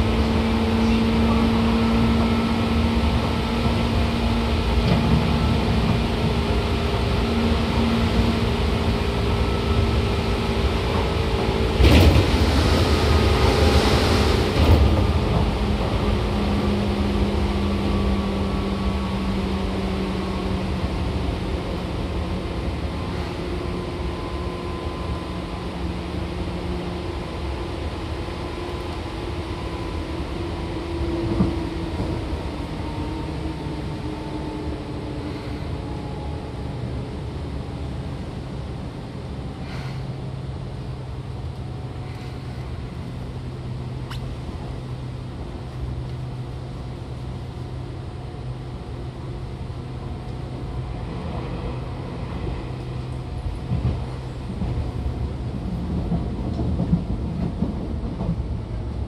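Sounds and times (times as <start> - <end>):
train traction motors humming: 0.0 - 59.0.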